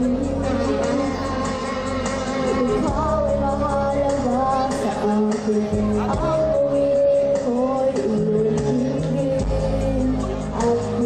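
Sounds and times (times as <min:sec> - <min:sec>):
girl singing pop ballad: 0:00.0 - 0:11.0
instrumental accompaniment: 0:00.0 - 0:11.0.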